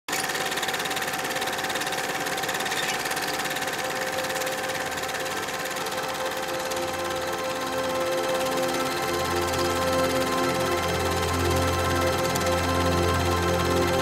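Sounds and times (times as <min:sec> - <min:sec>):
film projector clattering: 0:00.1 - 0:14.0.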